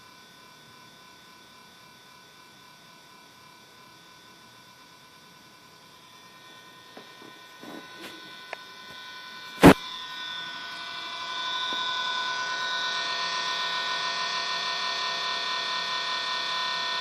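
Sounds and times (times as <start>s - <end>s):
console electronic whine-hum: 0.0s - 17.0s.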